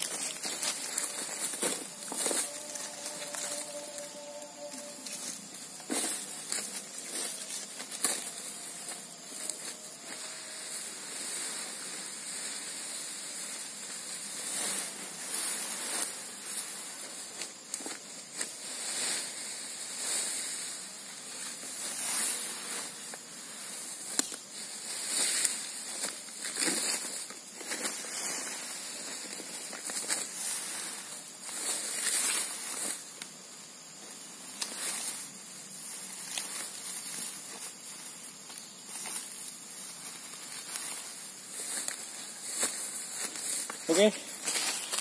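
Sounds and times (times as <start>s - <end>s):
crackles: 0.0s - 45.0s
grass and plants rustling: 0.0s - 45.0s.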